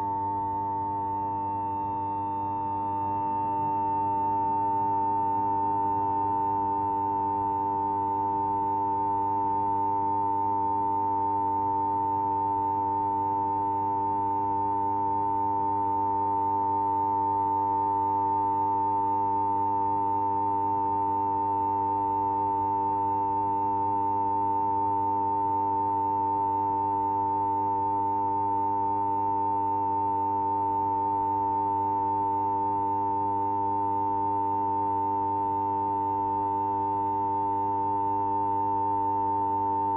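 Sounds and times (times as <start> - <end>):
high-pitched steady hum: 0.0 - 39.9.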